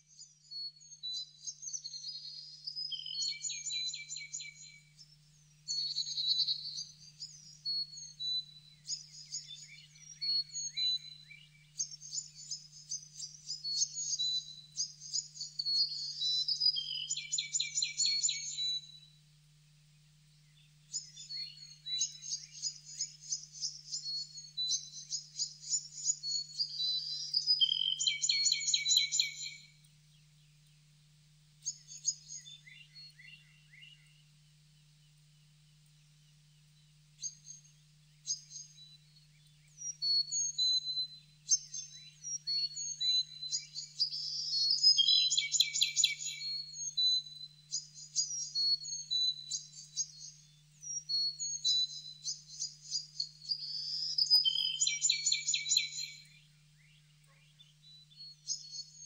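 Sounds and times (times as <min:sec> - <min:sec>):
faint low hum: 0:00.0 - 0:59.0
songbird chirps and trills: 0:00.0 - 0:59.0.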